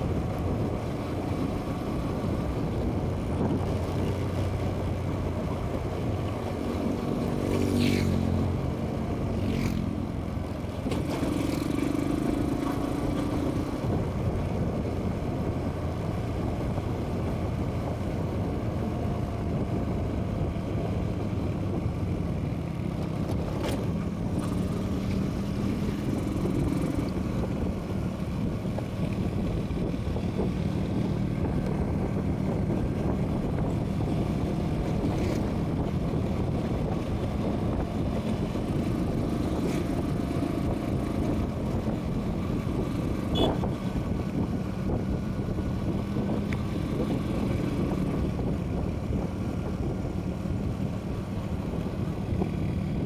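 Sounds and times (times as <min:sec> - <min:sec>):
motorcycle engine cruising: 0:00.0 - 0:53.0
wind and road noise: 0:00.0 - 0:53.0.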